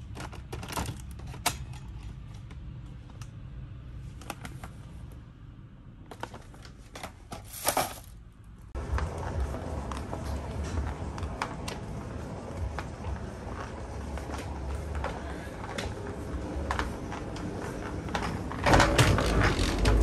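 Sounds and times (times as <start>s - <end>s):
steady low background hum: 0.0s - 20.0s.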